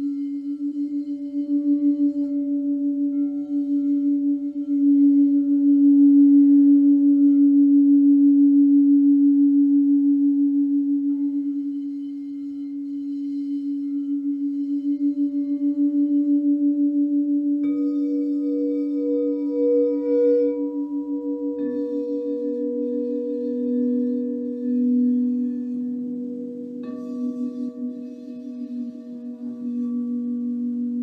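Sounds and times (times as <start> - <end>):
singing bowl humming: 0.0 - 31.0.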